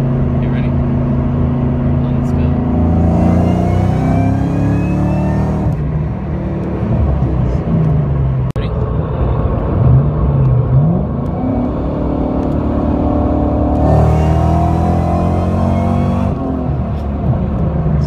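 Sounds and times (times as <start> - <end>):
car engine pulling hard: 0.0 - 18.0.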